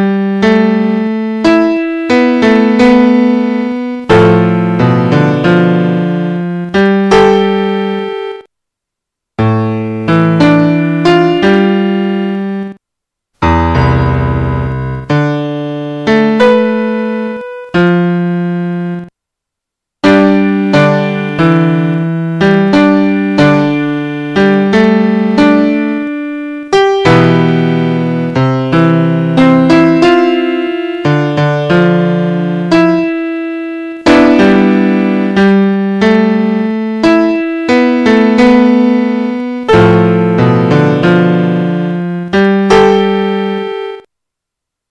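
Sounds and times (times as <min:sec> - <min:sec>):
slow solo piano: 0:00.0 - 0:08.5, 0:13.4 - 0:19.1, 0:20.0 - 0:44.1.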